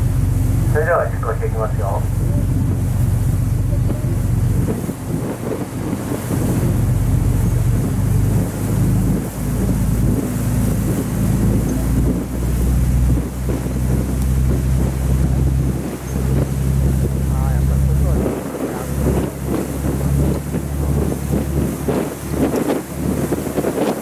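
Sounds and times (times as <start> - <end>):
boat engine droning: 0.0 - 24.0
wind buffeting microphone: 0.0 - 24.0.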